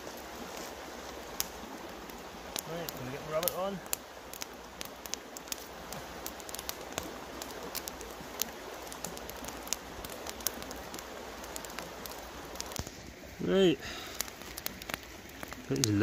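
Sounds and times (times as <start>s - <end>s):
campfire crackling and popping: 0.0s - 16.0s
river water rushing: 0.0s - 16.0s.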